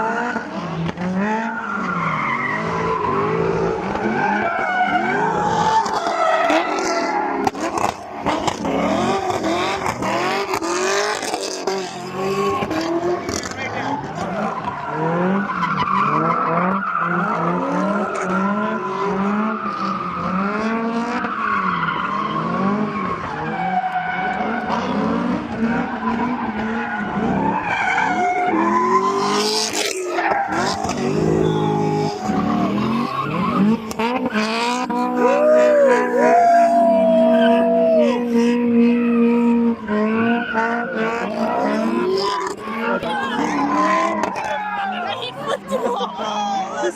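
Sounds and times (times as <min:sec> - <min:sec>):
car engine revving: 0:00.0 - 0:45.6
tires squealing and skidding: 0:00.0 - 0:46.9.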